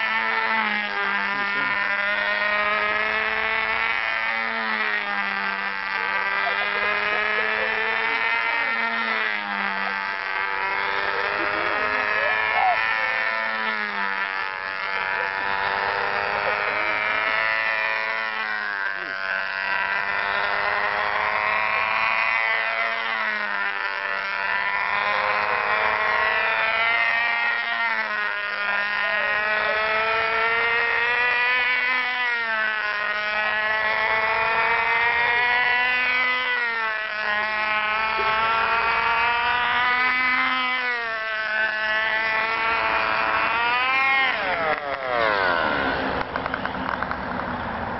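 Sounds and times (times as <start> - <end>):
model airplane engine buzzing: 0.0 - 47.9.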